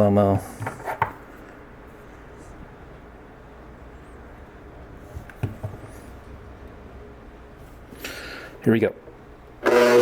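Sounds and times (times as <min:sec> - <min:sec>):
low background hum: 0:00.0 - 0:09.7.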